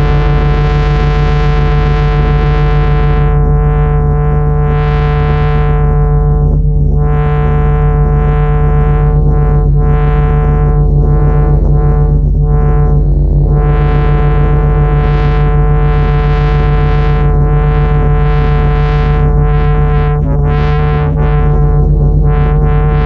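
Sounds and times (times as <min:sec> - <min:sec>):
ambient synthesizer music: 0:00.0 - 0:04.4, 0:05.0 - 0:23.0.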